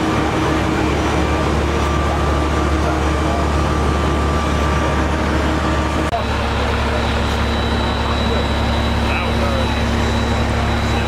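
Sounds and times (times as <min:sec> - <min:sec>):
diesel engines droning: 0:00.0 - 0:11.0
street noise: 0:00.0 - 0:11.0.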